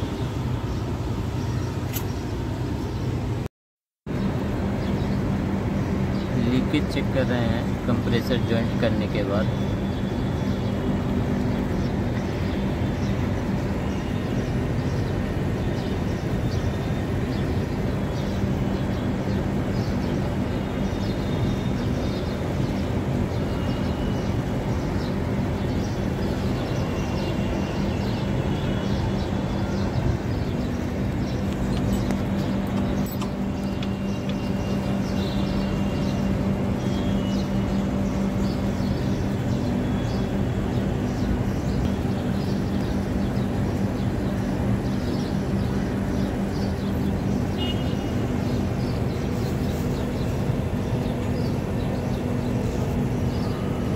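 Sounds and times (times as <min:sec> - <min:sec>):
air conditioner unit humming: 0:04.1 - 0:53.9.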